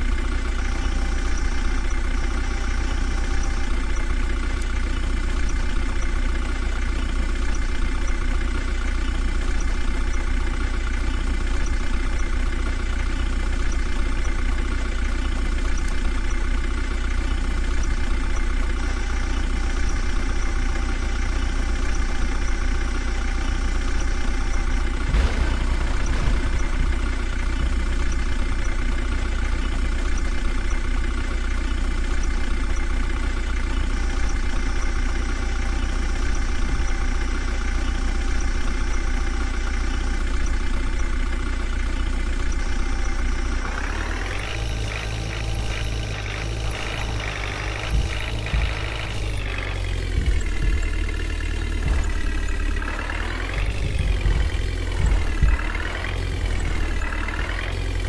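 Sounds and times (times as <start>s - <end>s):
deep engine hum: 0.0s - 58.0s
diesel machinery engine running: 0.0s - 58.0s.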